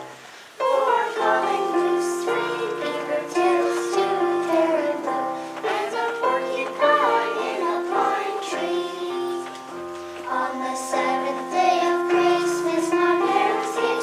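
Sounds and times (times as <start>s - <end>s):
children singing: 0.0s - 14.0s
instrumental accompaniment: 0.0s - 14.0s.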